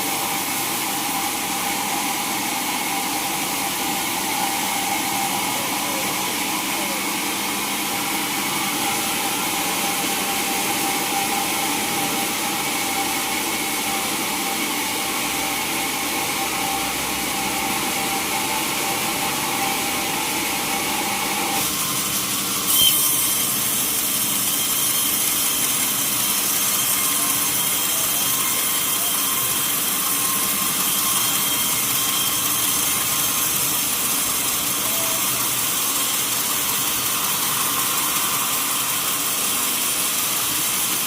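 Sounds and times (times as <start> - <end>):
saw cutting through log: 0.0 - 41.0.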